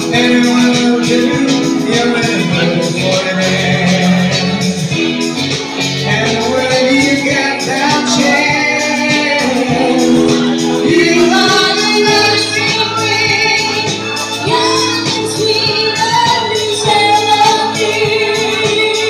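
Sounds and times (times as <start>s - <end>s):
accompanying music: 0.0s - 19.0s
person singing into a microphone: 0.0s - 19.0s.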